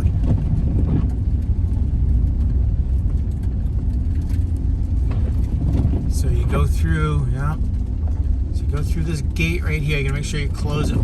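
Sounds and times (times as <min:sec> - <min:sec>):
van engine rumbling: 0:00.0 - 0:11.0.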